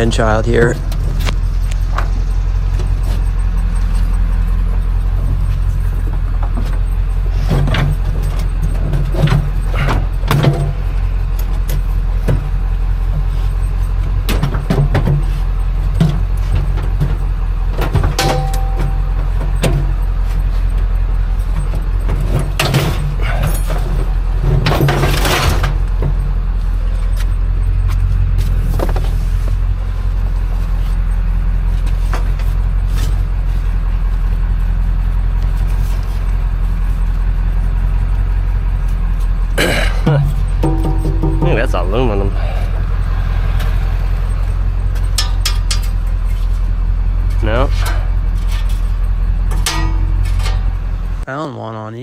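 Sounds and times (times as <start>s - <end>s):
vehicle engine rumbling: 0.0s - 52.0s
knocks and rattles: 0.6s - 29.2s, 34.5s - 50.9s.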